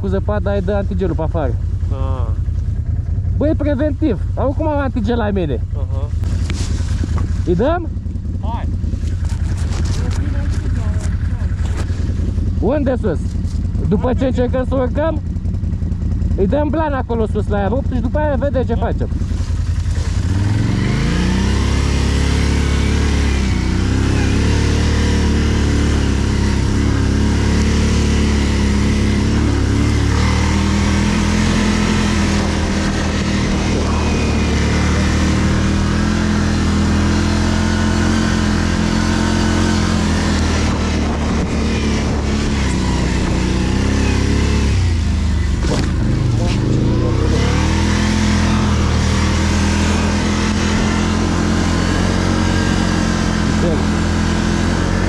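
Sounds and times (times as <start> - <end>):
atv engine revving under load: 0.0 - 55.0.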